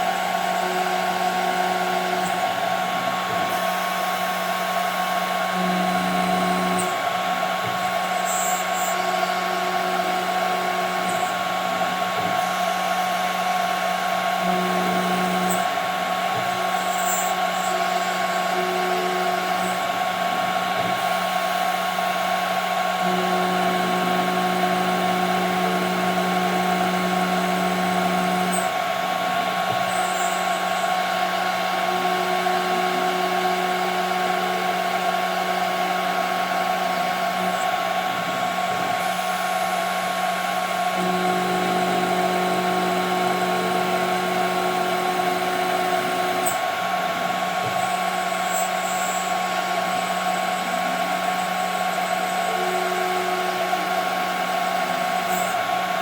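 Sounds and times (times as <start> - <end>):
axis motors humming: 0.0 - 56.0.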